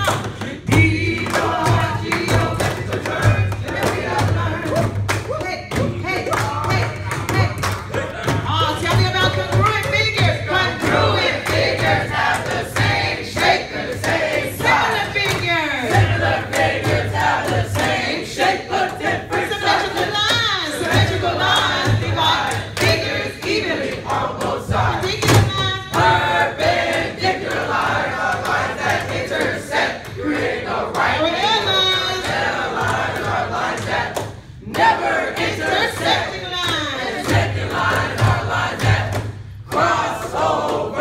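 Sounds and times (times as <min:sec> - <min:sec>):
boys chanting and singing: 0:00.0 - 0:41.0.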